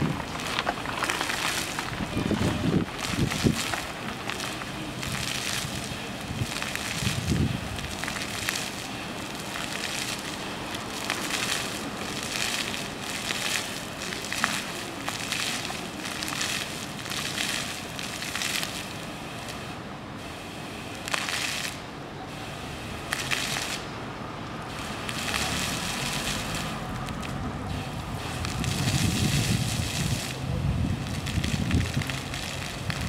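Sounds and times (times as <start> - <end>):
fountain jets spraying and pattering: 0.0 - 33.0.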